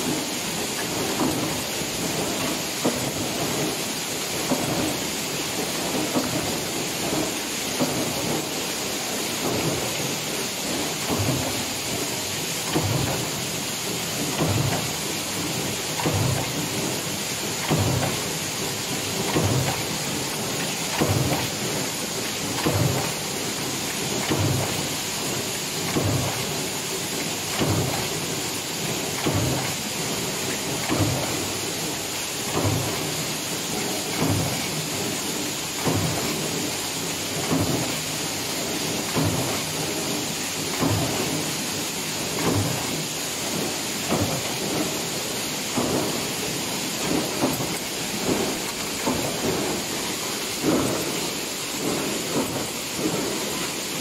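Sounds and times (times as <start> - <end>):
stamping press thuds: 0.0 - 54.0
steady machine noise: 0.0 - 54.0.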